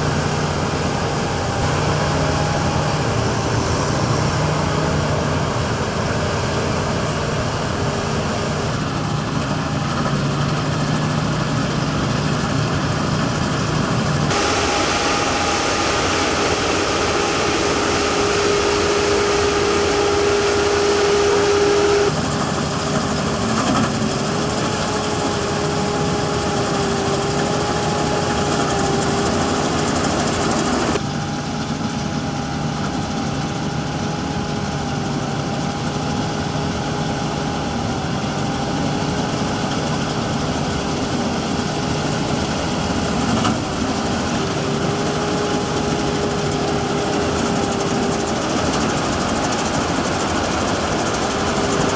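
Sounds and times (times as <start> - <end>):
constant machine whine: 0.0 - 51.9
harvesting machinery engine running: 0.0 - 51.9.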